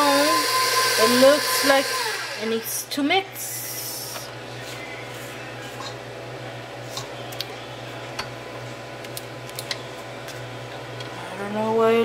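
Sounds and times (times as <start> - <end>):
low background hum: 1.0 - 12.0.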